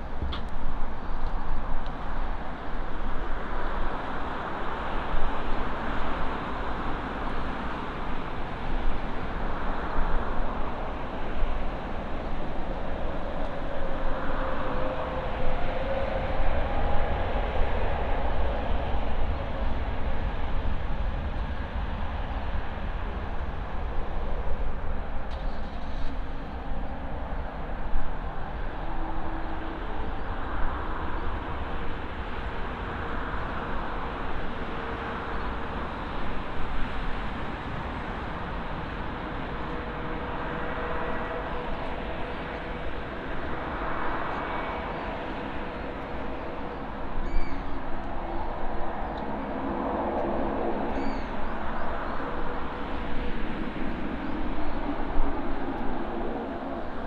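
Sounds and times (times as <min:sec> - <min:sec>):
faint engine whine: 0:00.0 - 0:57.0
wind buffeting microphone: 0:00.0 - 0:57.0.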